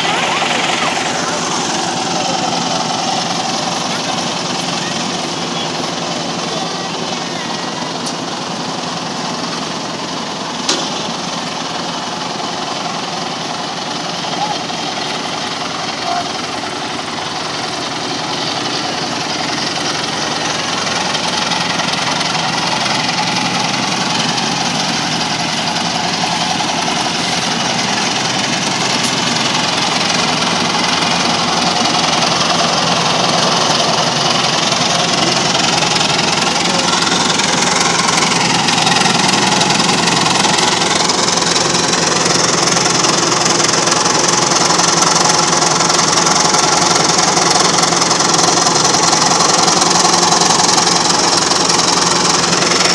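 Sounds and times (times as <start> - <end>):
farm machine engine running: 0.0 - 52.9.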